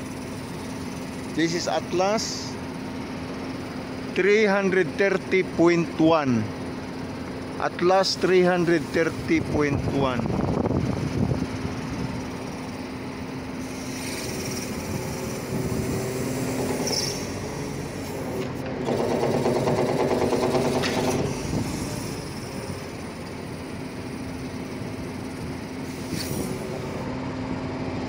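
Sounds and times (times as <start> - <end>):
crane hydraulic system humming: 0.0 - 28.0.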